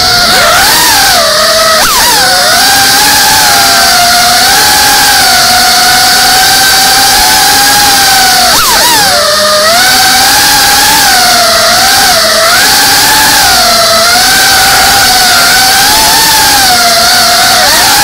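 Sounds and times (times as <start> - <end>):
drone high-pitched whine: 0.0 - 18.0.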